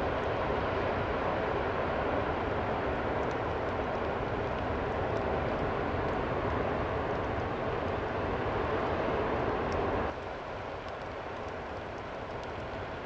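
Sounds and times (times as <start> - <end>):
fire crackling: 0.0 - 13.0
wildfire rushing rumble: 0.0 - 13.0.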